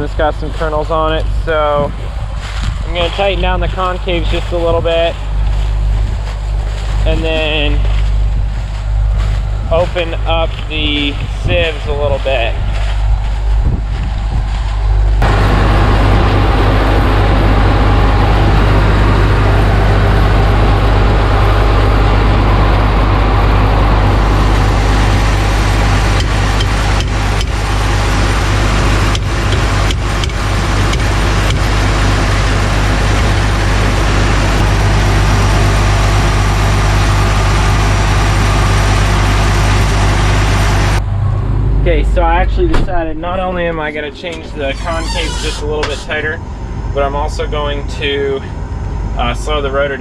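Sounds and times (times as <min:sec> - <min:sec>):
combine harvester engine hum: 0:00.0 - 0:50.0
machinery rush: 0:00.0 - 0:50.0.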